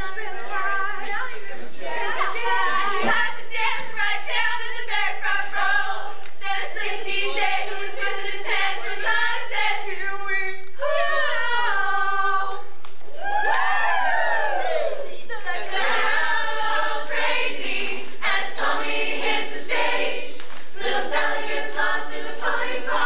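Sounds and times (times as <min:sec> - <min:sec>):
teenagers singing in chorus: 0:00.0 - 0:12.8, 0:15.3 - 0:23.0.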